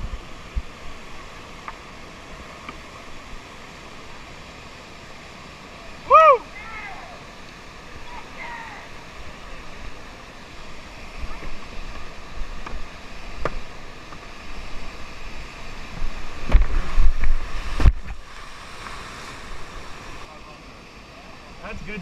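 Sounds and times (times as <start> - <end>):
rapids rushing: 0.0 - 22.0.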